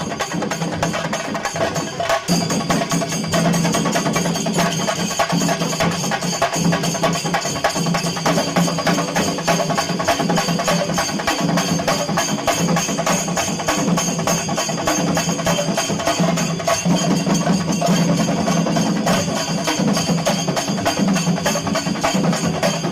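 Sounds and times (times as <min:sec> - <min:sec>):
drums beaten in fast rhythm: 0:00.0 - 0:22.9
ringing metal percussion: 0:00.0 - 0:22.9.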